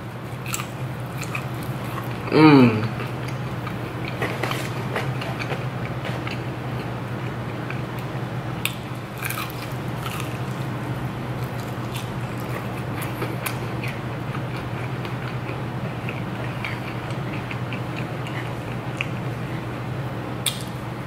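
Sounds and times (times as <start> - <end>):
steady low hum: 0.0 - 21.0
chewing and crunching: 0.2 - 10.8, 11.4 - 19.6.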